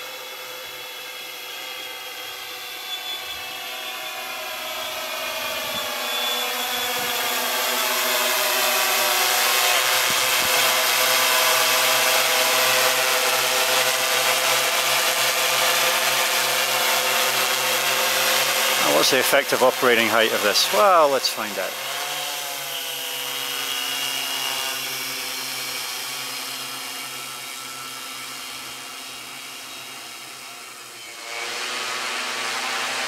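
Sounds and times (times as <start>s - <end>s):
quadcopter propellers whining: 0.0s - 33.0s.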